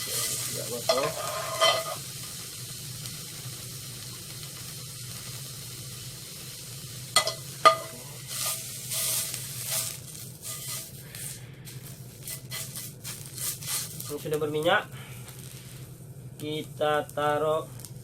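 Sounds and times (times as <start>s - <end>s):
fat sizzling in frying pan: 0.0s - 18.0s.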